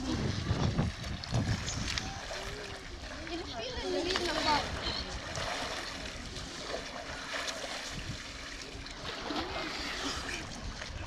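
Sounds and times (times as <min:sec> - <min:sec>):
sea water sloshing and trickling: 0:00.0 - 0:11.0.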